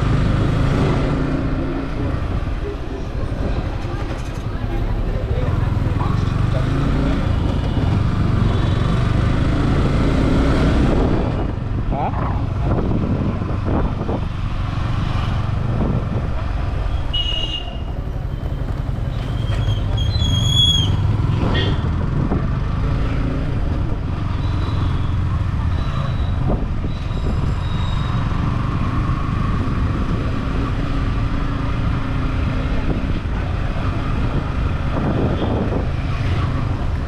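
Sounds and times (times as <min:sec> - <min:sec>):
motorcycle engine and road rumble: 0:00.0 - 0:37.0.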